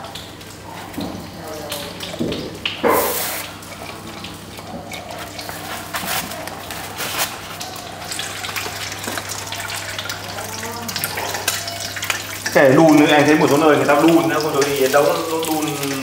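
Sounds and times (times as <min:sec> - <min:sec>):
water sloshing in a bowl: 0:00.0 - 0:16.0.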